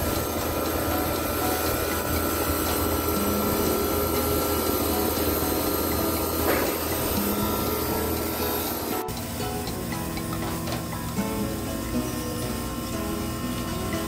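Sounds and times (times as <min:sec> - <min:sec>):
compressor humming: 0:00.0 - 0:14.0
thin steady whine: 0:00.0 - 0:14.0.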